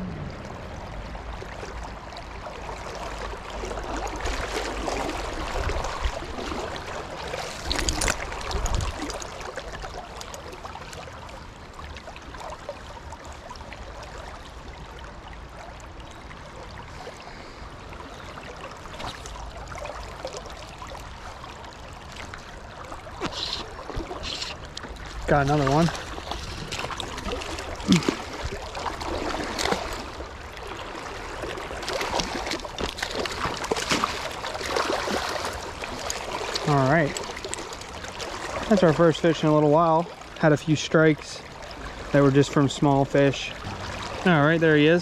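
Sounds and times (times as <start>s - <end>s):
river rushing and burbling: 0.0s - 45.0s.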